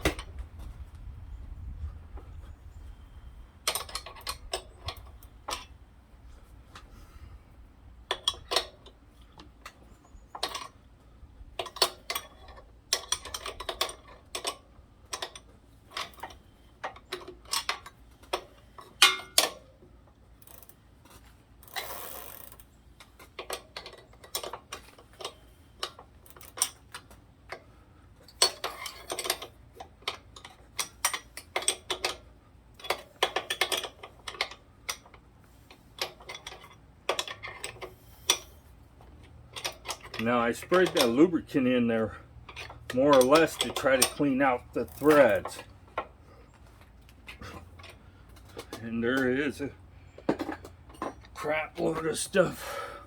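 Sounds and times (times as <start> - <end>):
metallic clicks and ratcheting: 3.6 - 5.8, 8.1 - 10.8, 11.5 - 19.8, 20.4 - 27.6, 28.2 - 52.8.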